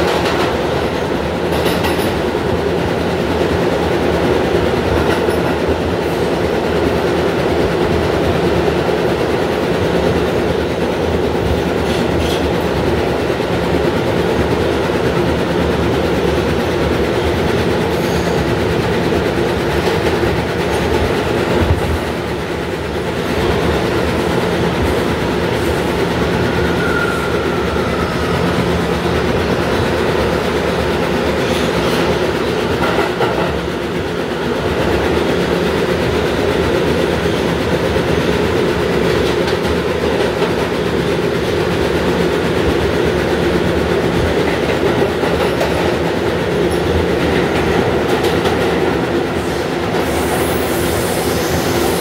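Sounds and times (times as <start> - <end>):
subway car rumbling on rails: 0.0 - 52.0.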